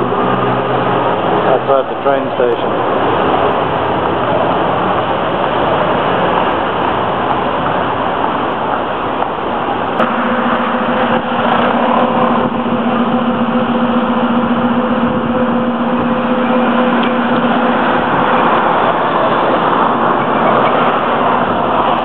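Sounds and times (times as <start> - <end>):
outdoor traffic noise: 0.0 - 22.0
steady low hum: 0.0 - 22.0.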